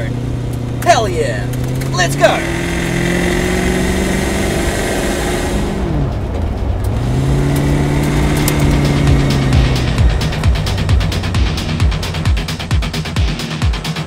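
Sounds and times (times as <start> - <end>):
car engine pulling: 0.0 - 14.0
road noise: 0.0 - 14.0.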